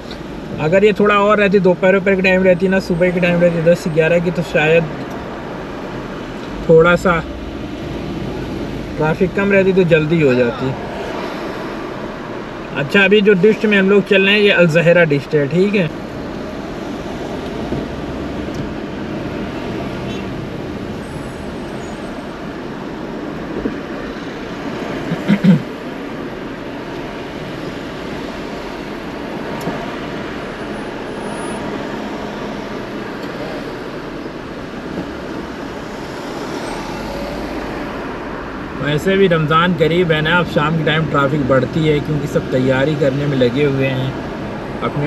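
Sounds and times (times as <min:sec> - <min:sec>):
road and traffic noise: 0:00.0 - 0:45.0.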